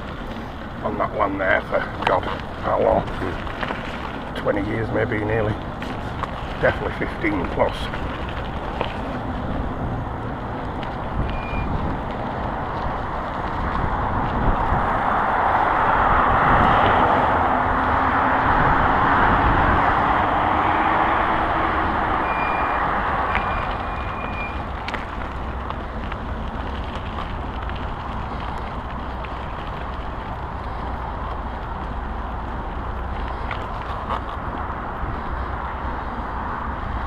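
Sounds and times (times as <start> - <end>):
background traffic rumble: 0.0 - 37.0
vehicle passing: 0.0 - 37.0.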